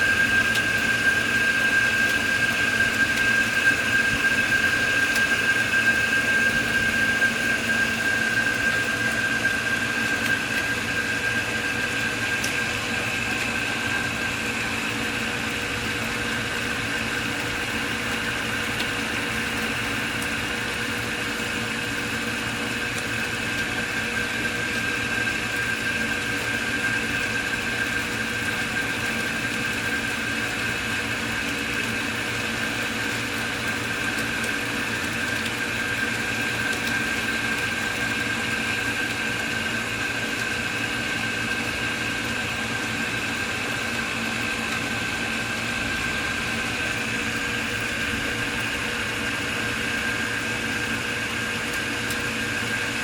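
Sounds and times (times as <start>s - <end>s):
mechanical hum with held tones: 0.0s - 53.0s.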